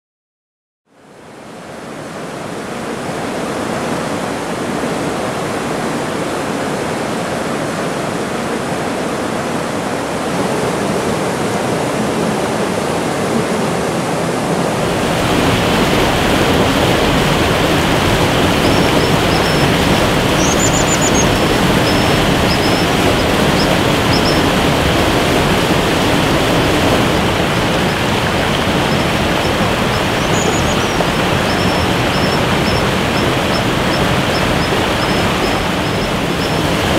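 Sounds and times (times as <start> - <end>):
waterfall and creek rushing: 1.0 - 36.9.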